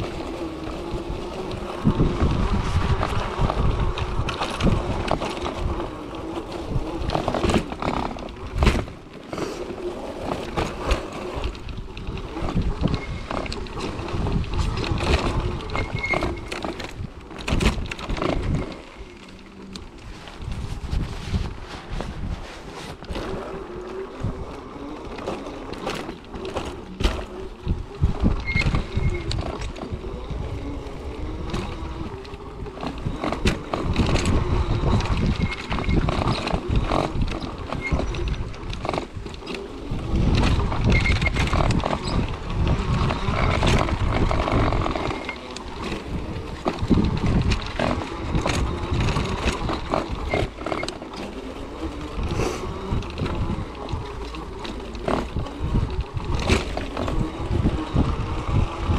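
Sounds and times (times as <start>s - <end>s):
wheelchair frame rattling: 0.0s - 58.9s
wind buffeting microphone: 0.0s - 58.9s.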